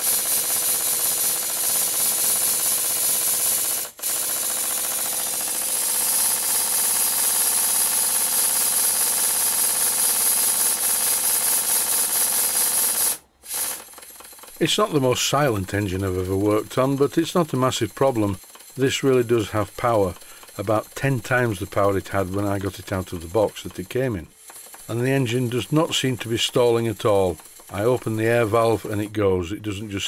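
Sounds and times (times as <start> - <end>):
model steam engine clattering: 0.0 - 29.0.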